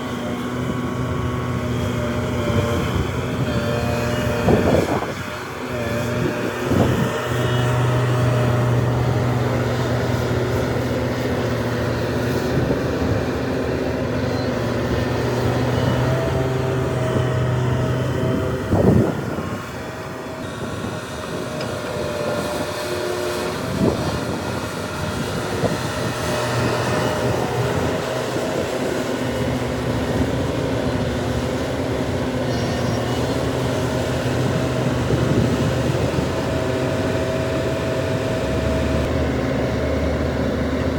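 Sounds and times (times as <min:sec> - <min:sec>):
heavy diesel engines droning: 0:00.0 - 0:40.9.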